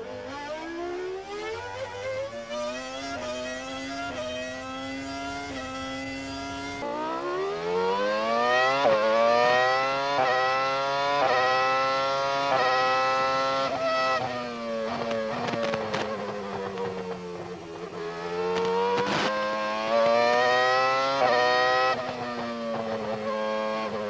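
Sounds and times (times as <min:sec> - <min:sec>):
racing car engine wailing: 0:00.0 - 0:24.0.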